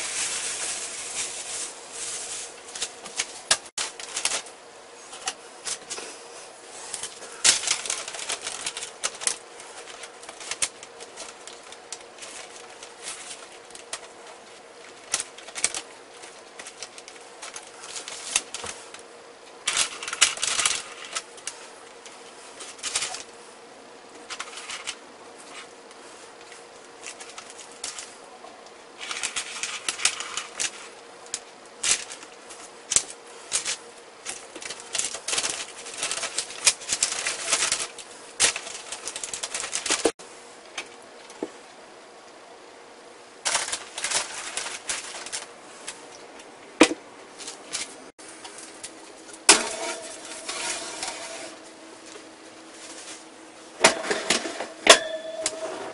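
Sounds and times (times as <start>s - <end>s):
paper rustling and crinkling: 0.0s - 23.4s, 24.2s - 28.2s, 29.0s - 40.2s, 43.4s - 46.2s, 47.4s - 53.3s.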